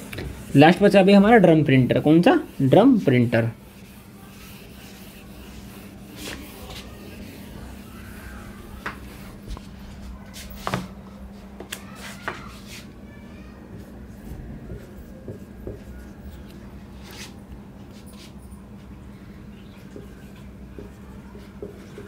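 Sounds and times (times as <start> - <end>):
marker writing on whiteboard: 0.0 - 12.9, 13.7 - 17.4, 19.8 - 22.0.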